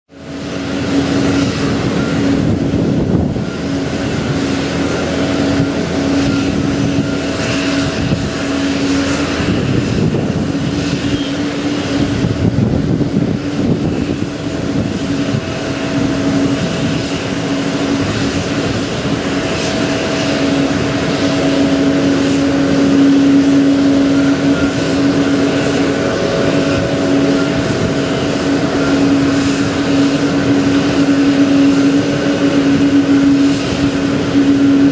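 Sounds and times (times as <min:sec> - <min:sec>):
aircraft turbine rumble: 0:00.1 - 0:34.9
high turbine whines: 0:00.1 - 0:34.9.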